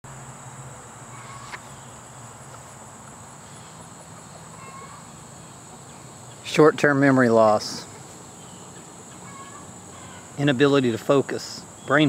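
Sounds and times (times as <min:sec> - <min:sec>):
crickets trilling: 0:00.1 - 0:12.0.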